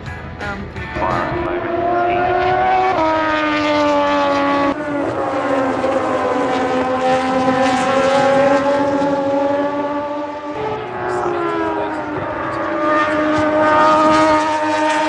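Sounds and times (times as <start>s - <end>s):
racing motorcycle engine revving: 0.0s - 15.0s.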